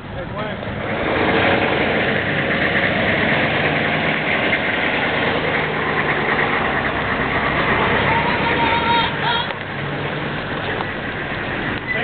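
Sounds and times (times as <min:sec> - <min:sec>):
road noise and rattle: 0:00.0 - 0:12.0
vehicle engine drone: 0:00.0 - 0:12.0.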